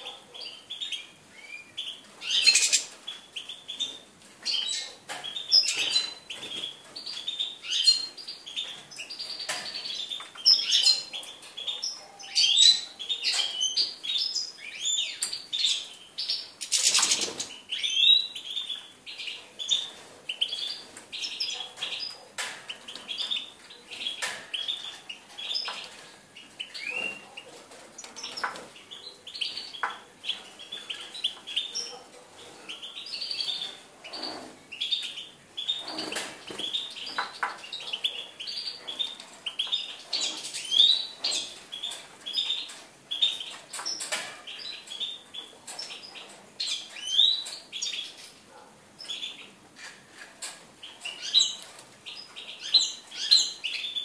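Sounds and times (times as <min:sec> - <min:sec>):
finch twittering chirps and trills: 0:00.0 - 0:27.2, 0:32.6 - 0:48.4, 0:50.8 - 0:54.0.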